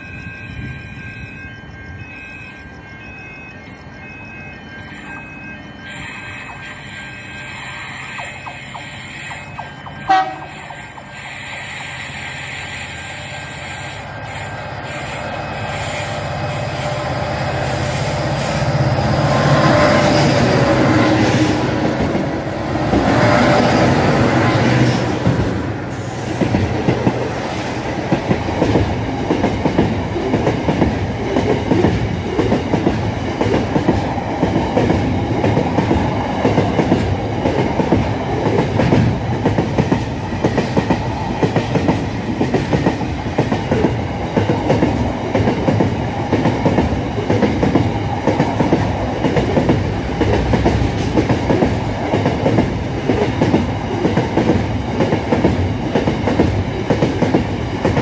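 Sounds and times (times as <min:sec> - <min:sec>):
freight train wagons passing: 0:00.0 - 0:58.0.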